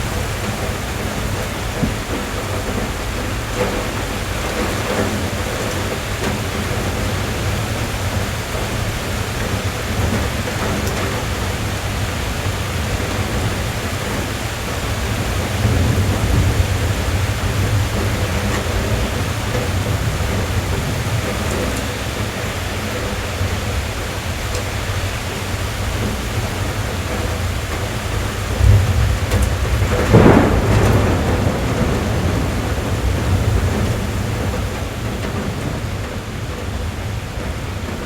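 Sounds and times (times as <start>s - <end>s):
rain drumming on car roof: 0.0s - 38.0s.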